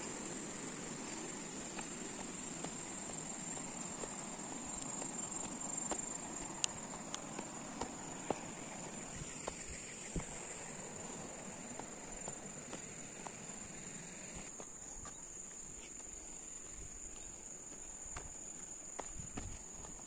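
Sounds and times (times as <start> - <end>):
footsteps on dirt trail: 0.0 - 20.0
insects droning in grass: 0.0 - 20.0
shoes clicking on stones: 0.0 - 20.0.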